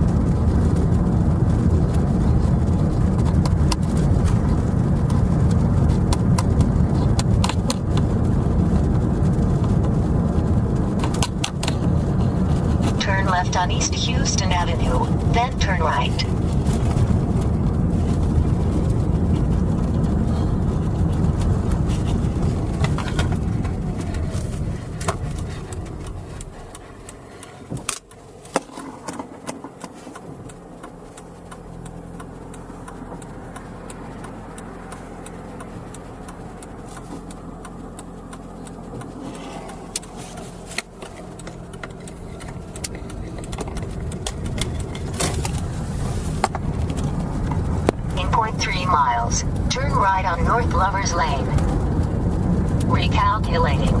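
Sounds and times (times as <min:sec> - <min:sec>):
car engine idling: 0:00.0 - 0:54.0
car road and engine noise: 0:00.0 - 0:54.0.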